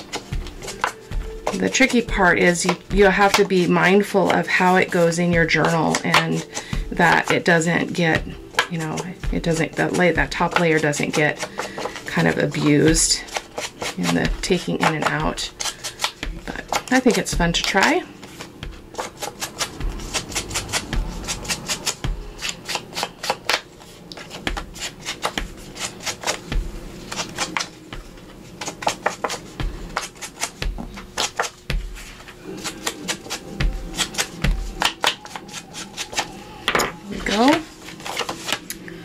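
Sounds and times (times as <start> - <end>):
tool tapping and scraping paper: 0.0 - 38.7.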